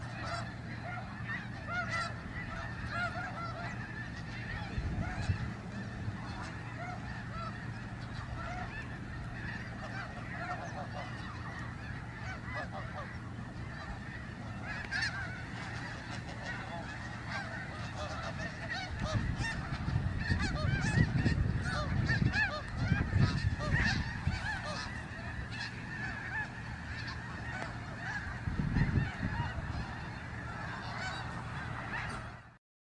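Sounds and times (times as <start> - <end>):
snow geese honking: 0.0 - 32.6.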